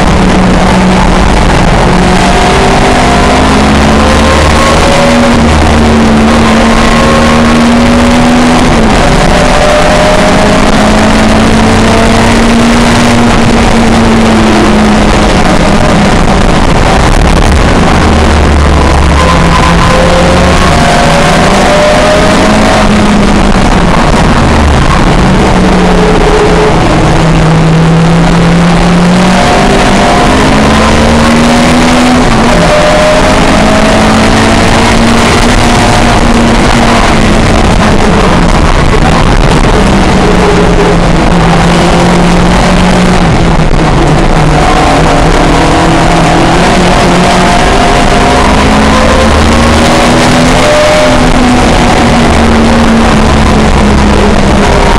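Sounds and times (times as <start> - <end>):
race car engine: 0.0 - 54.9.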